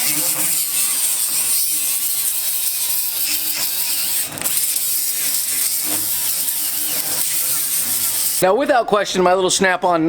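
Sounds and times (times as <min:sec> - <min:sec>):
die grinder grinding steel: 0:00.0 - 0:08.5.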